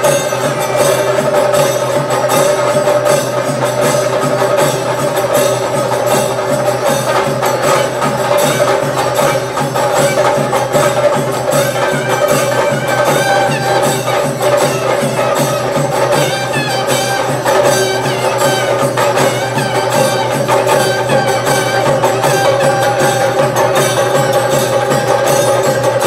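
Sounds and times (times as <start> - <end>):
drums beaten with sticks: 0.0 - 26.0.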